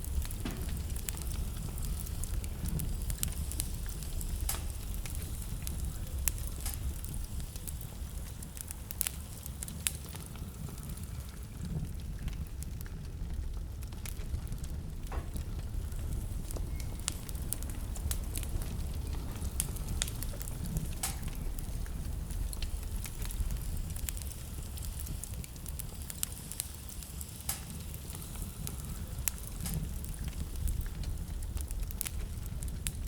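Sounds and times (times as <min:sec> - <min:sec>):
low rumble of blizzard wind: 0:00.0 - 0:33.0
wood fire crackling and popping: 0:00.0 - 0:33.0.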